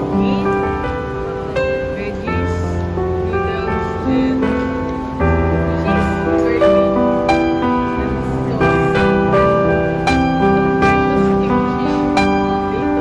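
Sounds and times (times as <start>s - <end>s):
piano background music: 0.0s - 13.0s.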